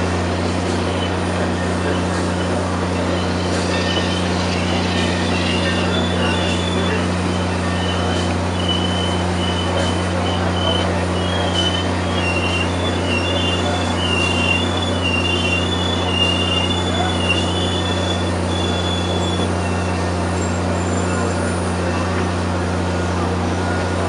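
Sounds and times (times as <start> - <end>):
train rolling noise: 0.0 - 24.0
train wheels squealing on rails: 0.0 - 24.0.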